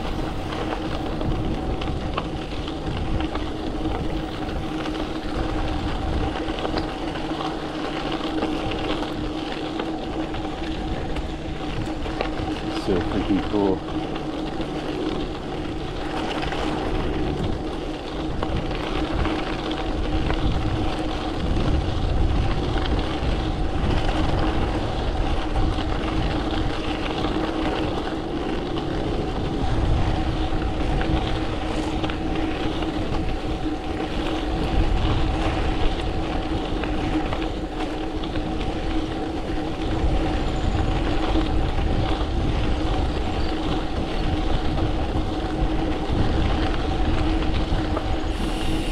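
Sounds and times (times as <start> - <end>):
steady hum: 0.0 - 48.9
wind buffeting microphone: 0.0 - 48.9.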